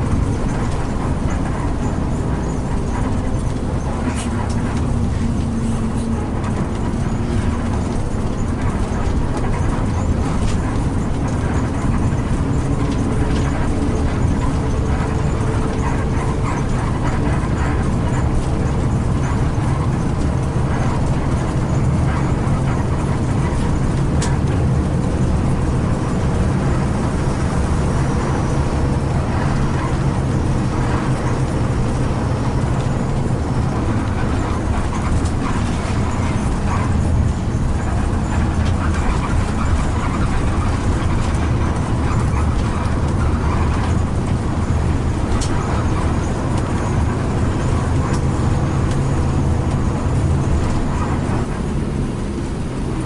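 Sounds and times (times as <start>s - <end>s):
bus engine drone: 0.0s - 53.0s
road rumble: 0.0s - 53.0s.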